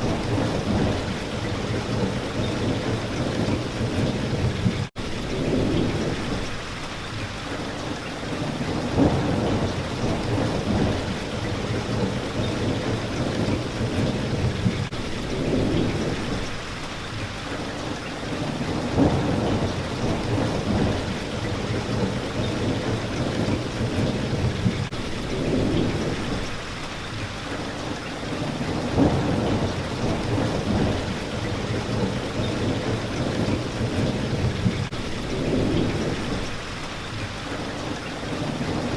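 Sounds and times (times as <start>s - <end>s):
thunder rumbles: 0.0s - 6.6s, 8.2s - 17.0s, 18.2s - 26.8s, 28.2s - 37.2s
heavy rain on a window: 0.0s - 38.9s
sharp rain hits: 0.0s - 38.9s.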